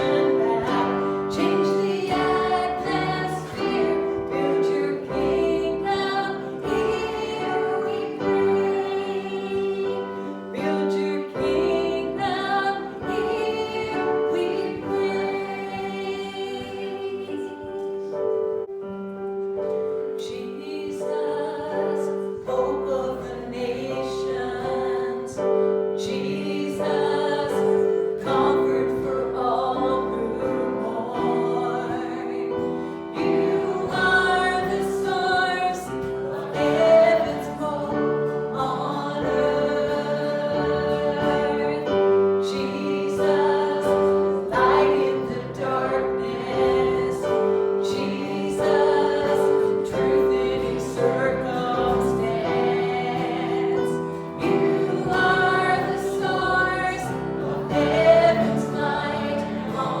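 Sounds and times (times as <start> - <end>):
group singing a hymn: 0.0 - 18.7, 19.6 - 60.0.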